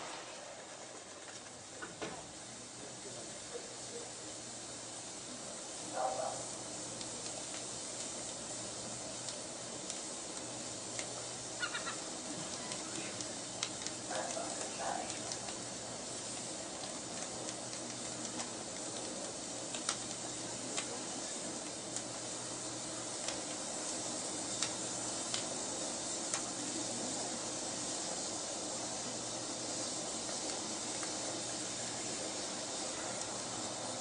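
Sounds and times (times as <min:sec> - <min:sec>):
firework crackles and pops: 0:00.0 - 0:34.0
firework fountains hissing: 0:00.0 - 0:34.0.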